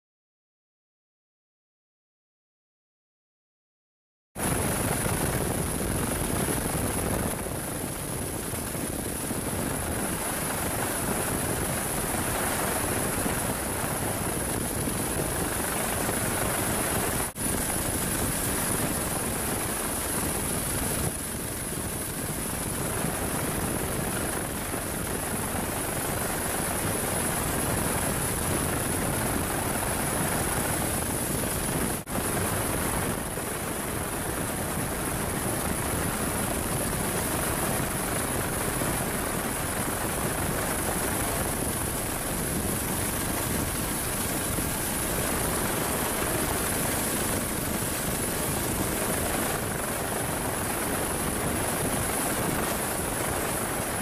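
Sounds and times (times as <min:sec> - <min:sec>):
helicopter rotor and engine: 0:04.4 - 0:54.0
high-pitched turbine whine: 0:04.4 - 0:54.0.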